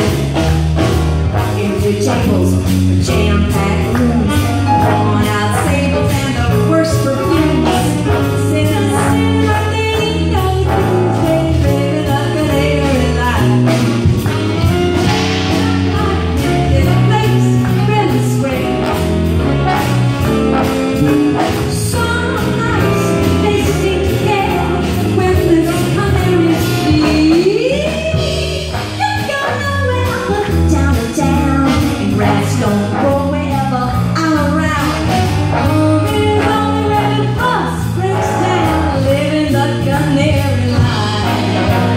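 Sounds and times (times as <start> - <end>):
big band jazz: 0.0 - 41.9
woman singing: 1.5 - 13.8, 15.0 - 19.0, 21.0 - 41.9.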